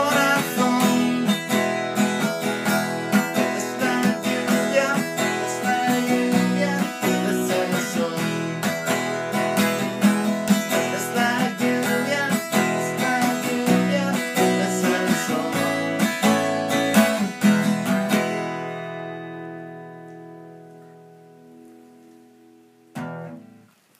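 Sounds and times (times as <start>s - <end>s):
acoustic guitar strumming: 0.0s - 23.8s.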